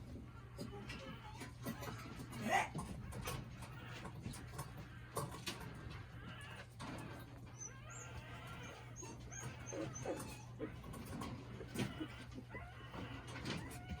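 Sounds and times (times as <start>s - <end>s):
puppies scuffling: 0.0s - 14.0s
puppy grunts and squeaks: 0.0s - 14.0s.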